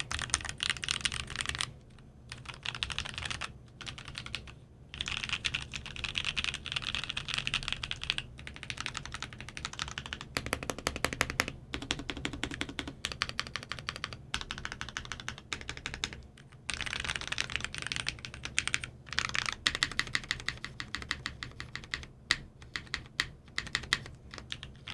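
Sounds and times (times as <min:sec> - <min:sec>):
mechanical keyboard typing: 0:00.0 - 0:24.9.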